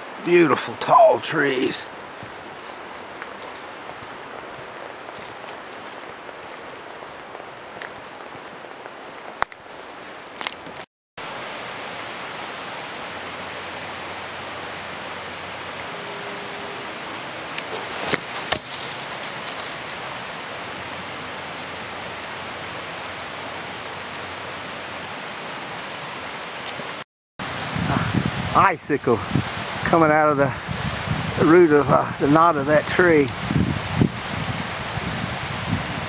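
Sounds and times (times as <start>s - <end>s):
mountain stream rushing: 0.0s - 36.0s.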